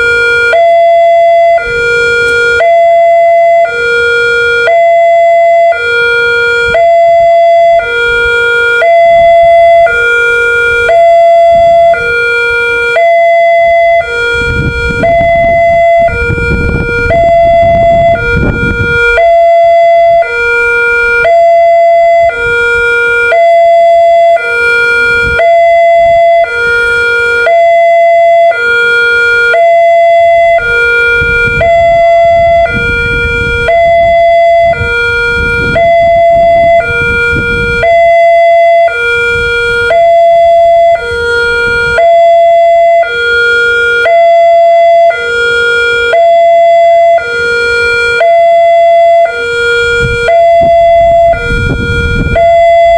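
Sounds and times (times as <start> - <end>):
level crossing warning siren: 0.0 - 52.9.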